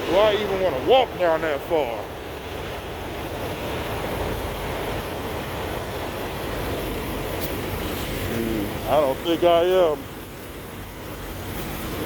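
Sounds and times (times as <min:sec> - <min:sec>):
engine rumble and hiss: 0:00.0 - 0:12.0.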